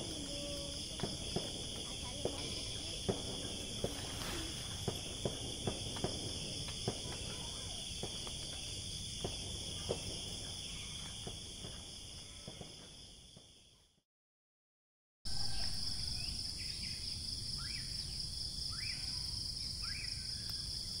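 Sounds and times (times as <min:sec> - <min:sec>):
crickets and insects chirring: 0:00.0 - 0:13.9, 0:15.3 - 0:21.0.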